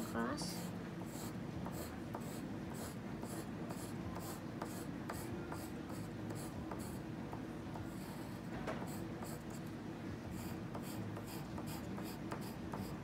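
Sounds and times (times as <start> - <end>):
pencil scratching on paper: 0.0 - 7.0, 7.8 - 9.6, 10.3 - 13.0.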